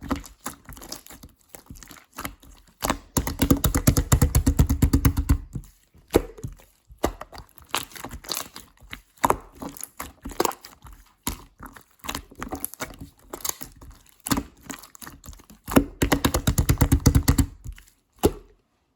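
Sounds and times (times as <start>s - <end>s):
slime squished by hand: 0.0s - 18.6s.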